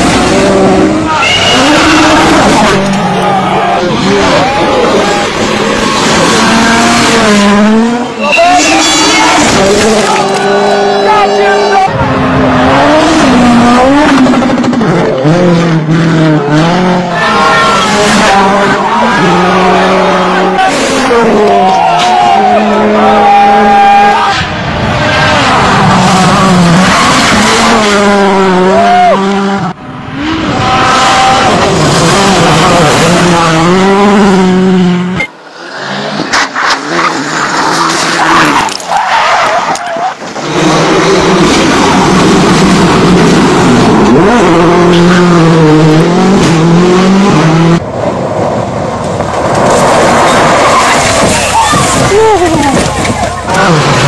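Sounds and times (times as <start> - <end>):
rally car engine at high revs: 0.0 - 54.0.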